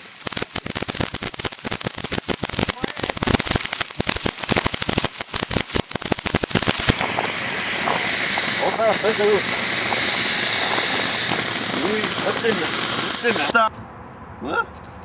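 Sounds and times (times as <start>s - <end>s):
firecrackers cracking: 0.0s - 13.7s.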